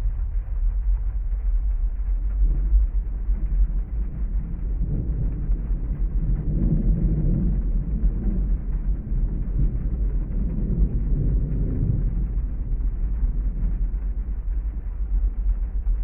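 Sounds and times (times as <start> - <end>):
deep rumble: 0.0 - 16.0
thunder rolling: 0.0 - 16.0
rain hissing: 0.7 - 16.0.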